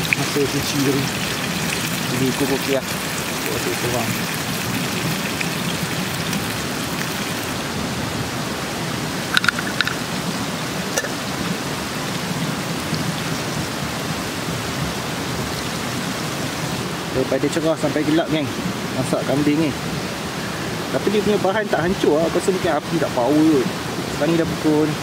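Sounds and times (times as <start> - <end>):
water rushing: 0.0 - 25.0.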